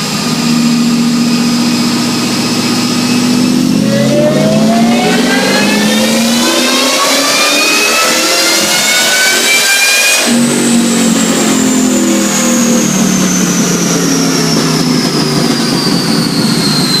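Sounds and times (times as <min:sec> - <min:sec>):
engine revving: 0:00.0 - 0:17.0
high whine falling in pitch: 0:00.0 - 0:17.0.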